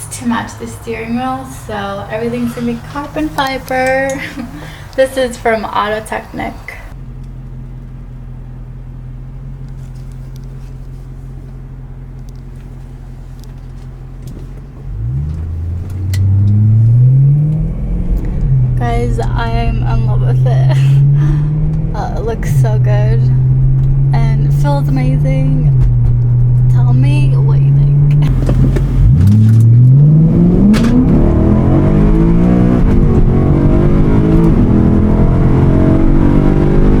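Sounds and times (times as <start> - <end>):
car engine running and revving: 6.9 - 37.0.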